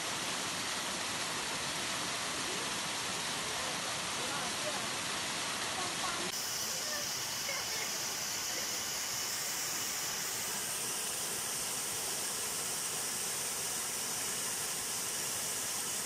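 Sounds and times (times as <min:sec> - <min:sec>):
small waterfall splashing over rocks: 0:00.0 - 0:16.0.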